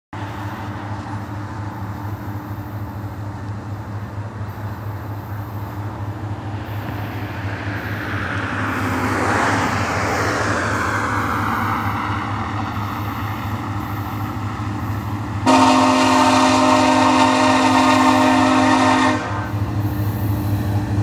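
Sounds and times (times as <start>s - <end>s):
diesel locomotives rumbling: 0.1s - 21.0s
train hiss: 0.2s - 21.0s.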